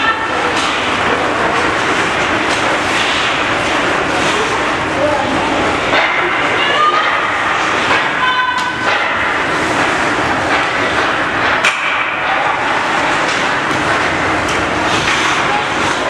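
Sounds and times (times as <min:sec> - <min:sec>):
crowd and game noise: 0:00.0 - 0:16.0.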